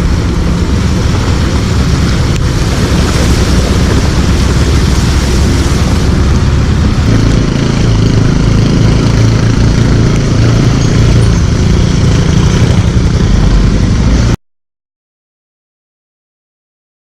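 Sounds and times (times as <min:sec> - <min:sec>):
motorcycle engine running: 0:00.0 - 0:14.4
wind noise on microphone: 0:00.0 - 0:14.4.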